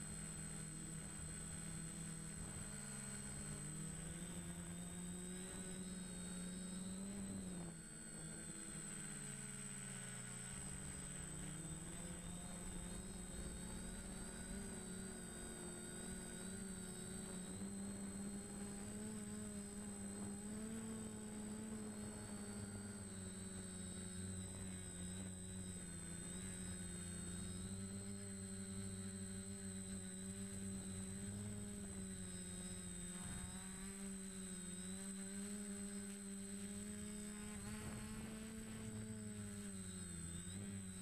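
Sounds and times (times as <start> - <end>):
drone motors buzzing: 0.0 - 41.0.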